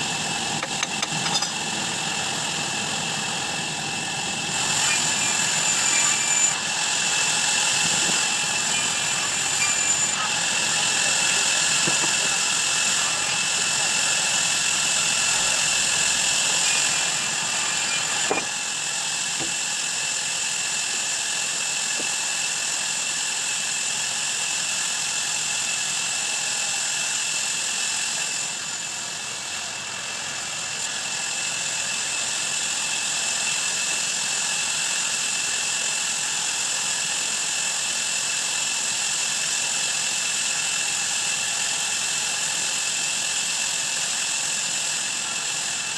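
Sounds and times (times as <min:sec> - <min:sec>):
band saw whining: 0:00.0 - 0:45.9.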